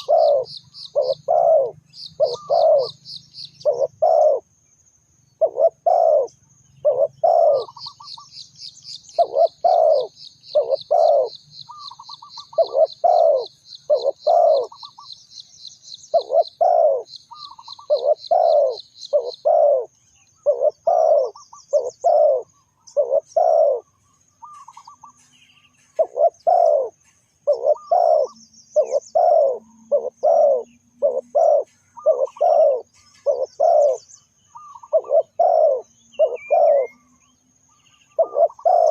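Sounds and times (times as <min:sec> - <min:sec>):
dove cooing: 0:00.0 - 0:04.5, 0:05.4 - 0:08.2, 0:09.1 - 0:15.1, 0:16.1 - 0:37.4, 0:38.0 - 0:38.9
faint high bird chirps: 0:00.0 - 0:38.9.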